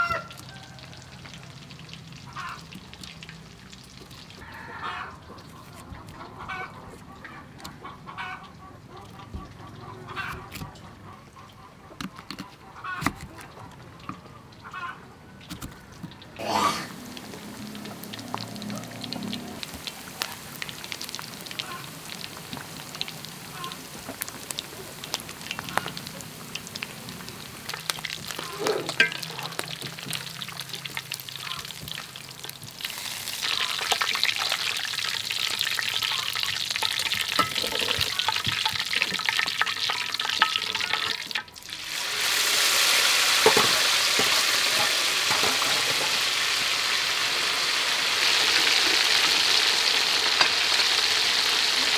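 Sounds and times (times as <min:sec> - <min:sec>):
deep-frying crackling and popping: 0:00.0 - 0:14.8, 0:15.4 - 0:51.9.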